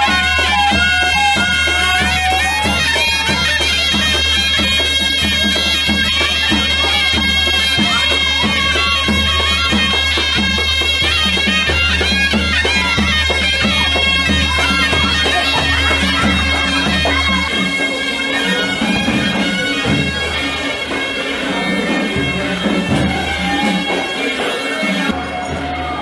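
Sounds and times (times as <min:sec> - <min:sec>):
wind instrument melody over drone: 0:00.0 - 0:26.0.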